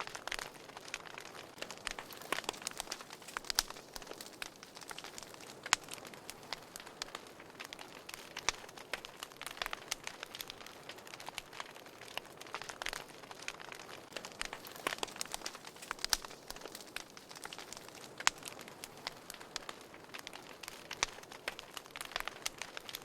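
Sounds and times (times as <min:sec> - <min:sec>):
soft steady hiss: 0:00.0 - 0:23.0
wood fire crackling: 0:00.0 - 0:23.0.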